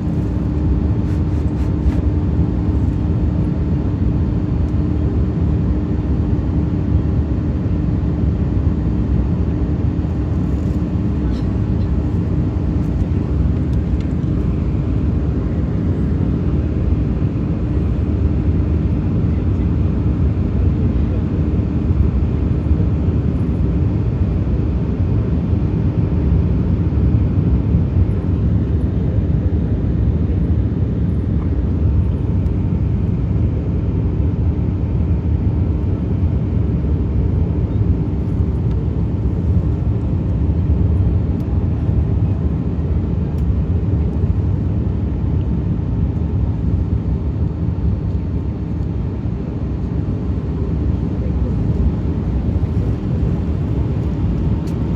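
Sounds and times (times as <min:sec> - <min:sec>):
aircraft cabin engine rumble: 0:00.0 - 0:54.9.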